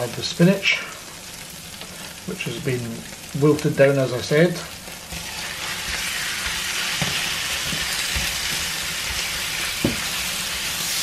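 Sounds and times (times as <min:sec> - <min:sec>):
spinach sizzling in oil: 0:00.0 - 0:11.0.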